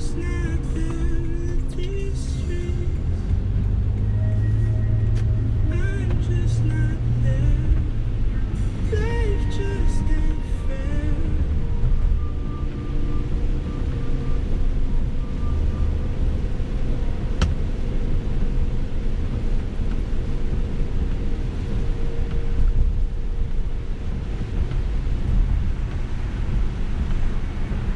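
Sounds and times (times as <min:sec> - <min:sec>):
road and engine rumble: 0:00.0 - 0:27.9.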